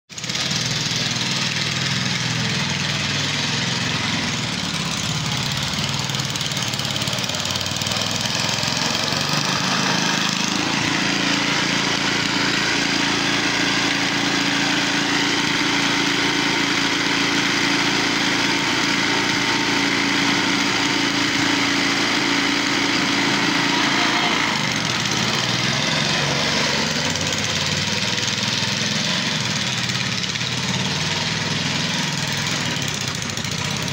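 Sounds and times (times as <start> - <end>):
lawn mower engine running: 0.1 - 33.9.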